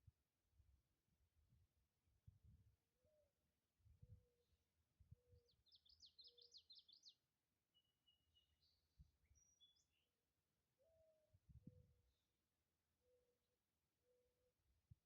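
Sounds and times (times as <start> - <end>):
faint songbird singing: 1.3 - 15.0.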